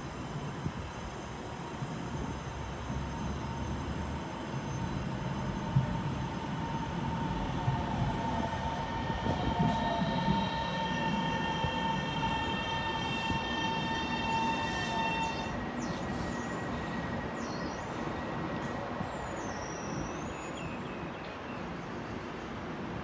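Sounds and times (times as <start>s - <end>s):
high-pitched train whine: 0.0s - 23.0s
train rumbling: 0.0s - 23.0s.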